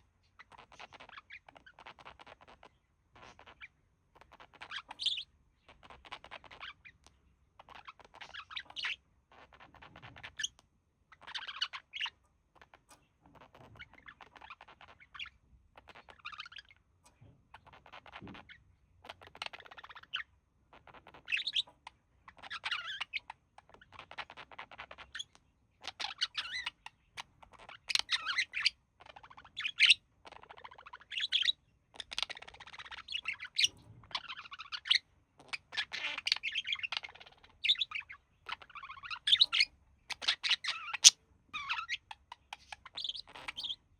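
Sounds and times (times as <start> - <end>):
budgerigars chattering: 0.0 - 7.0, 7.6 - 16.8, 17.6 - 43.9.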